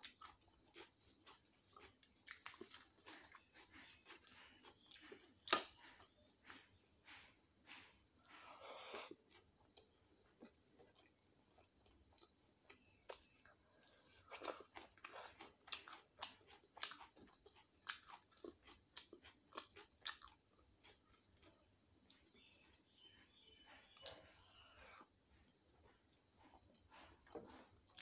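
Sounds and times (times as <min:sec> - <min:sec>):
wet chewing sounds: 0:00.0 - 0:28.0.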